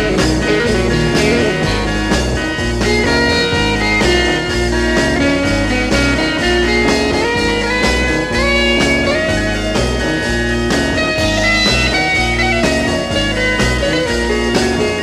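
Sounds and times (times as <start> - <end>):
bass: 0.0 - 15.0
drums: 0.0 - 15.0
electric guitar lead notes: 0.0 - 15.0.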